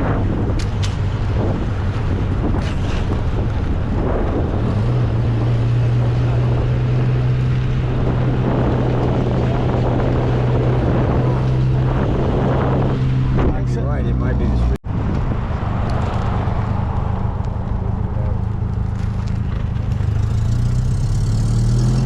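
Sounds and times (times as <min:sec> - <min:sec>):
wind rushing over microphone: 0:00.0 - 0:18.8
car engine cruising: 0:00.0 - 0:22.0.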